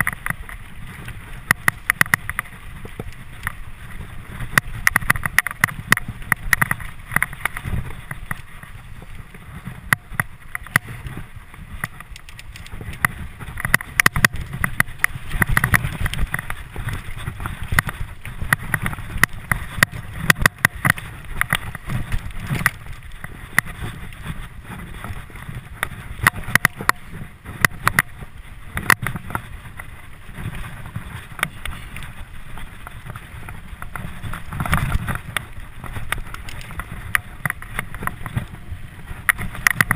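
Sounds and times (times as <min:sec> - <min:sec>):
bike clicks and rattles: 0:00.0 - 0:39.9
wind rumbling on microphone: 0:00.0 - 0:39.9.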